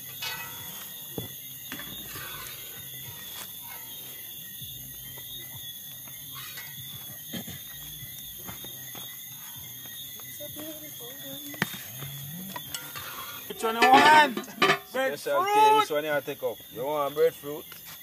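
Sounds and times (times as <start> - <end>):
night insects chirring: 0.0 - 18.0.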